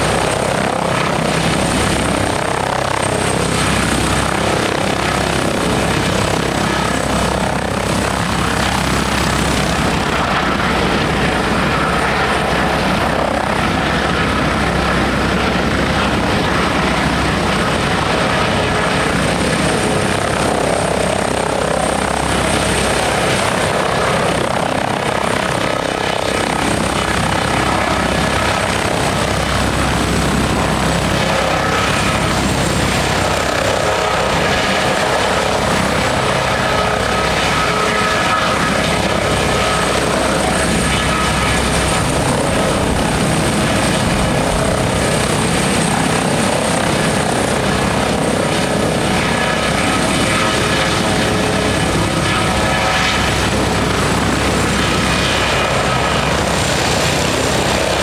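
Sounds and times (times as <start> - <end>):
helicopter rotor noise: 0.0 - 58.0.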